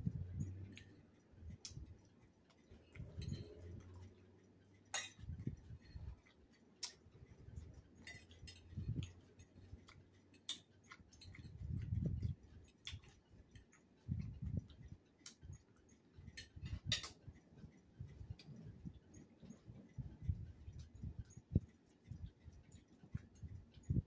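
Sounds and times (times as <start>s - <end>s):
fork clicking and scraping plate: 0.1s - 24.0s.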